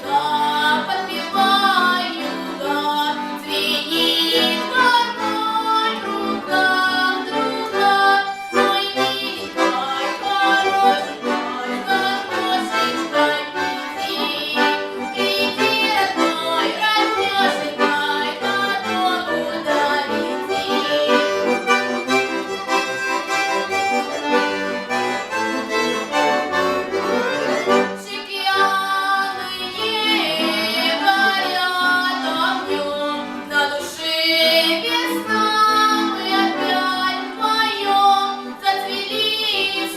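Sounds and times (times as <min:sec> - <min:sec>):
accordion folk melody: 0:00.0 - 0:39.9.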